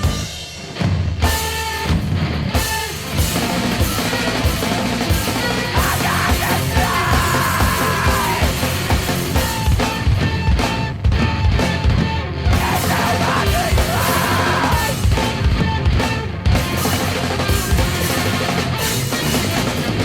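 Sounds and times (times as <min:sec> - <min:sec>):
dense guitar: 0:00.0 - 0:20.0
fast drum hits: 0:00.0 - 0:20.0
heavy rock band playing: 0:00.0 - 0:20.0.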